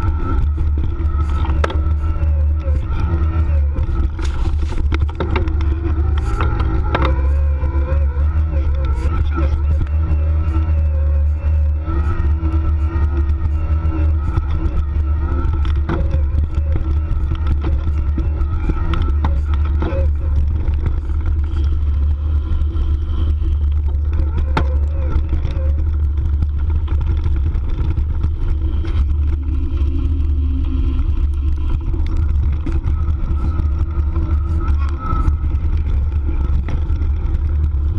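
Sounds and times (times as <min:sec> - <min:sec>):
bike clattering over bumps: 0:00.0 - 0:37.9
electric motor whine: 0:00.0 - 0:37.9
wind rumble on microphone: 0:00.0 - 0:37.9.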